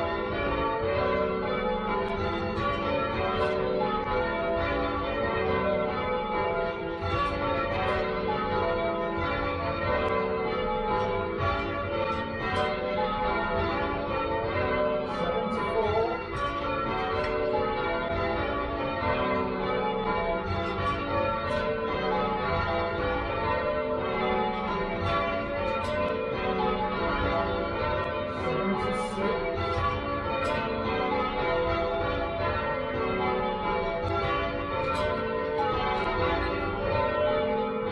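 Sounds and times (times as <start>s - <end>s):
church bells change-ringing: 0.0s - 37.9s.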